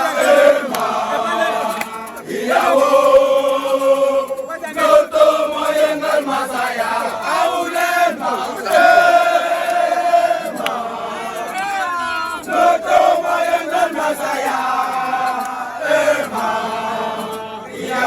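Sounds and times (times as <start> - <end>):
crowd chanting: 0.0 - 18.0.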